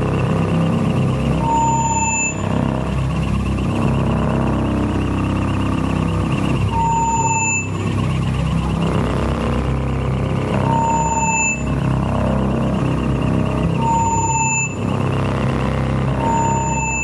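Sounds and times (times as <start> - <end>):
low electronic rumble: 0.0 - 17.0
pulsing high tone: 0.0 - 17.0.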